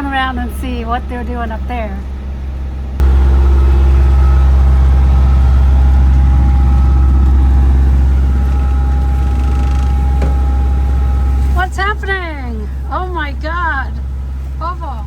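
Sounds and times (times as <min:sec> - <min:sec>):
boat engine droning: 0:00.0 - 0:15.0
engine whine: 0:02.2 - 0:15.0.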